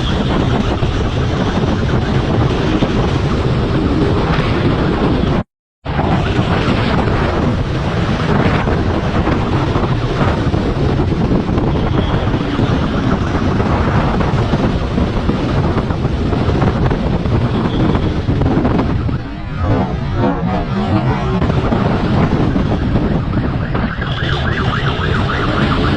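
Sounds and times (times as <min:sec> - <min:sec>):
vehicle running: 0:00.0 - 0:25.9
wind buffeting microphone: 0:00.0 - 0:25.9.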